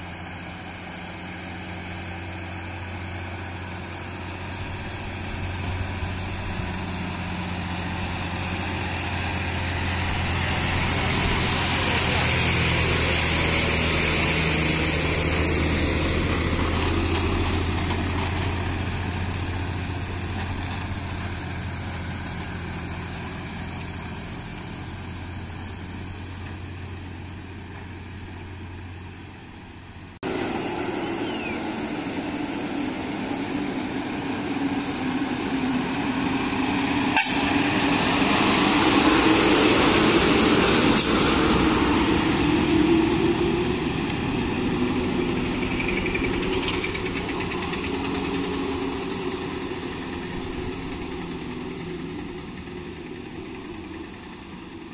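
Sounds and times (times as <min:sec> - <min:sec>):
diesel lorry engines labouring: 0:00.0 - 0:54.9.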